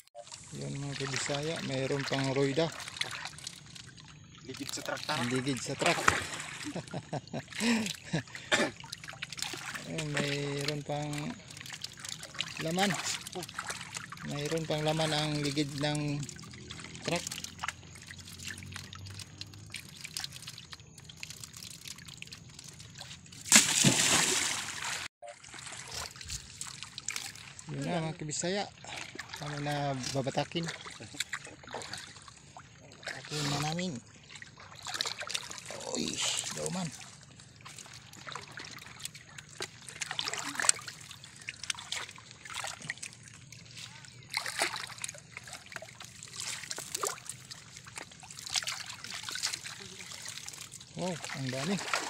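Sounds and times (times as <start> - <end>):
shallow water trickling and sloshing: 0.1 - 52.0
tyre splashing into water: 4.5 - 52.0.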